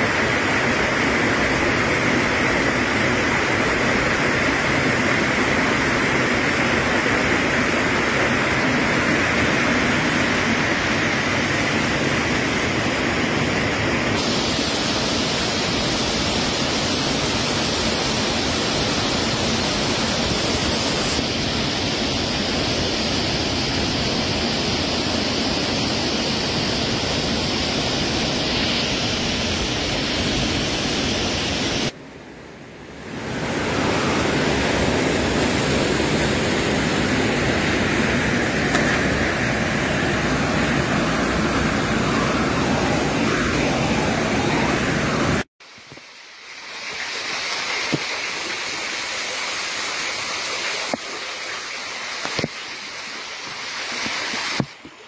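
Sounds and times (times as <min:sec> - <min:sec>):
waterfall rushing: 0:00.0 - 0:32.0, 0:33.1 - 0:54.9.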